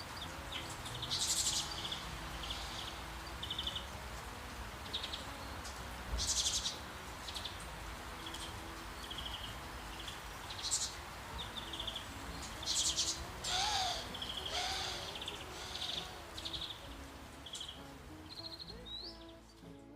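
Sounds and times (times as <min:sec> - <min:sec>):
running water: 0:00.0 - 0:19.8
songbirds trilling: 0:00.0 - 0:19.9.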